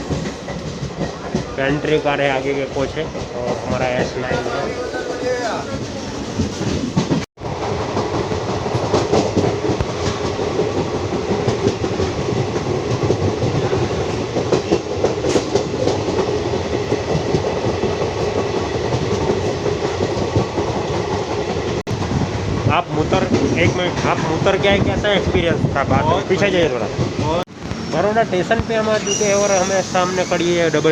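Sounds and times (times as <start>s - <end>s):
train rumbling on rails: 0.0s - 30.9s
train wheel clatter: 0.0s - 30.9s.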